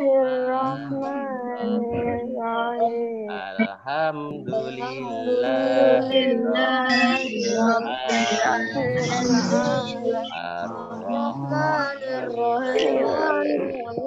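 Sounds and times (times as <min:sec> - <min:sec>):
children and man chanting prayer: 0:00.0 - 0:14.0.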